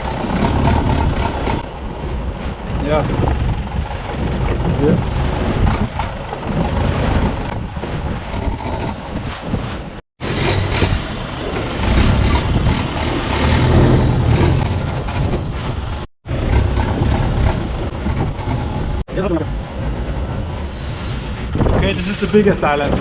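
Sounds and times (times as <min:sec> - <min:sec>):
rushing water: 0:00.0 - 0:21.5
boat engine running: 0:00.0 - 0:21.8
rushing wind: 0:00.0 - 0:23.0.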